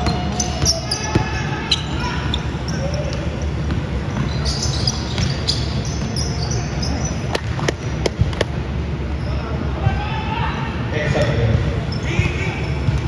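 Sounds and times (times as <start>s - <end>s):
crowd noise in a gym: 0.0s - 13.0s.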